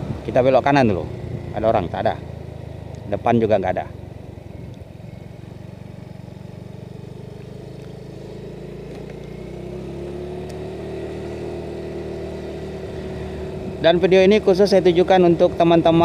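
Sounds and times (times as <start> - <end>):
engine whine rising in pitch: 0.0 - 16.0
motorcycle engine running: 0.0 - 16.0.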